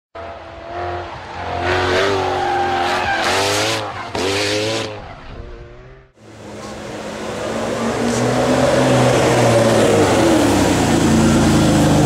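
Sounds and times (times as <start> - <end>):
car engine revving: 0.2 - 12.0.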